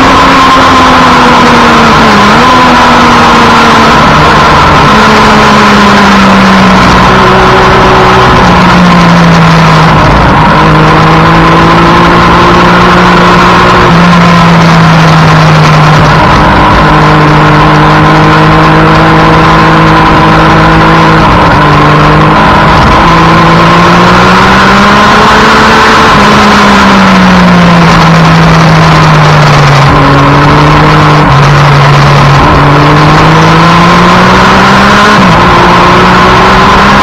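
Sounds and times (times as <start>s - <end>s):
loud rush of noise: 0.0s - 37.0s
motorcycle engine revving: 0.0s - 37.0s.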